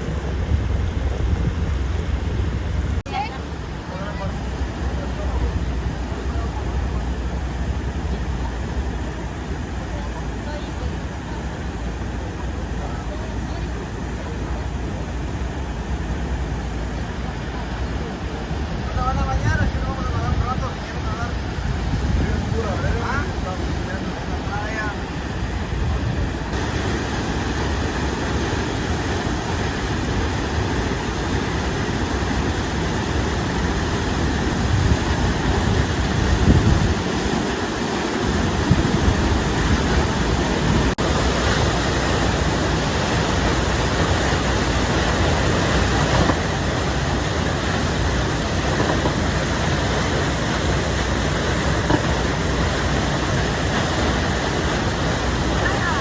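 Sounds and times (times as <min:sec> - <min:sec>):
boat motor drone: 0:00.0 - 0:56.0
rushing water: 0:00.0 - 0:56.0.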